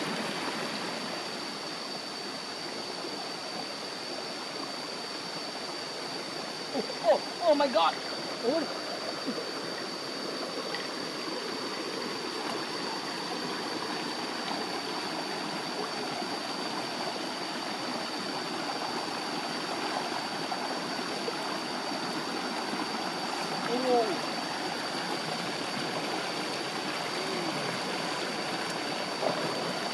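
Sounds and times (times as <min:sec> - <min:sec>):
stream rushing over rocks: 0:00.0 - 0:29.9.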